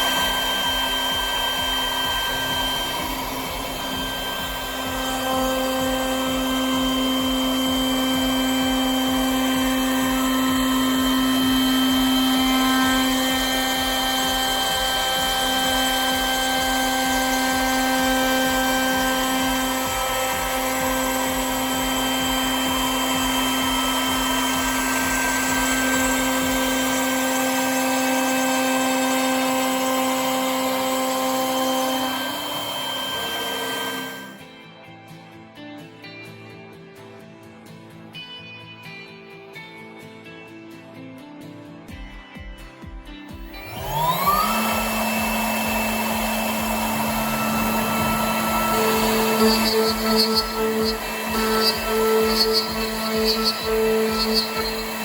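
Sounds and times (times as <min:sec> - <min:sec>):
cnc router spindle milling: 0:00.0 - 0:34.4, 0:43.6 - 0:55.0.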